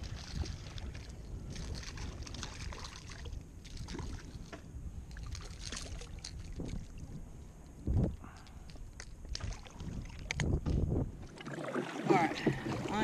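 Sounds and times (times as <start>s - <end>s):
low steady rumble: 0.0s - 13.0s
water splashing and lapping: 0.0s - 13.0s.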